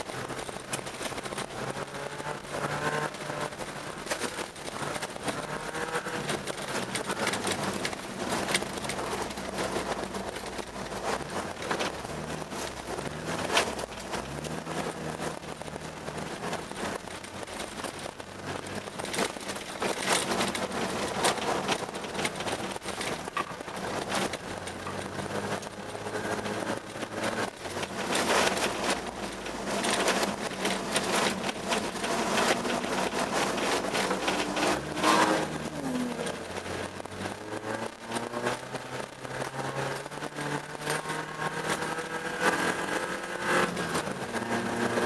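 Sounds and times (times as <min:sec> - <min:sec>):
tyres and snow rattling: 0:00.0 - 0:45.0
car engine from inside cabin: 0:00.1 - 0:45.0.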